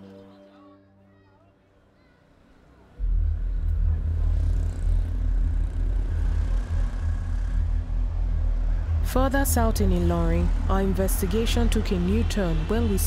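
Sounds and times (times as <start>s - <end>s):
road traffic rumble: 1.6s - 13.0s.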